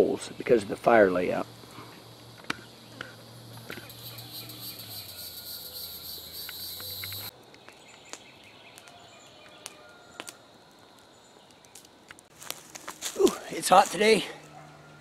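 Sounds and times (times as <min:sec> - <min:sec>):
campfire popping: 0:00.0 - 0:14.2
insects buzzing: 0:00.0 - 0:14.4.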